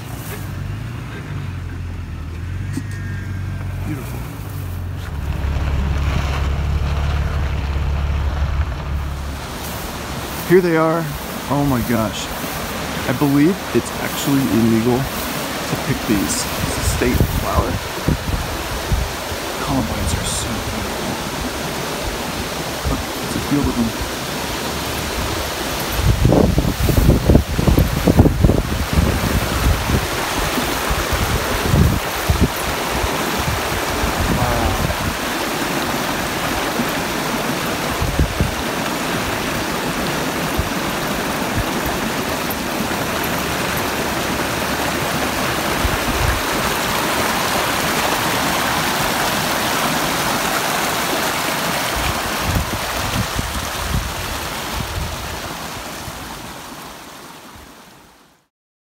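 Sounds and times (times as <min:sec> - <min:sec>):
wind rumble on microphone: 0:00.0 - 0:11.5, 0:12.2 - 0:56.4
stream running over rocks: 0:00.0 - 0:58.5.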